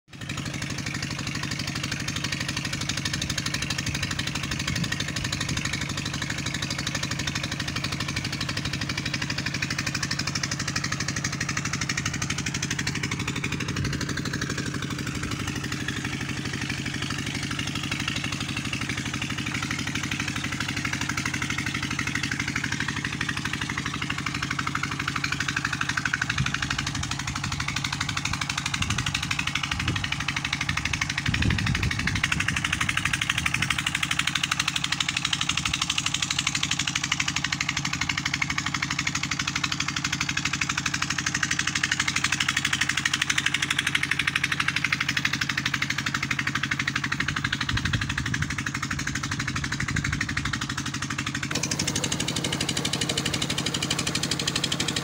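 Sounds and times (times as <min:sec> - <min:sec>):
engine running steadily: 0:00.1 - 0:55.0.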